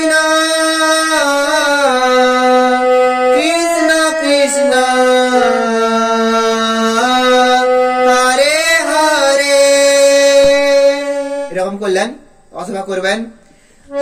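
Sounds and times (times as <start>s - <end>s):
man singing: 0.0s - 11.8s
harmonium melody: 0.0s - 12.5s.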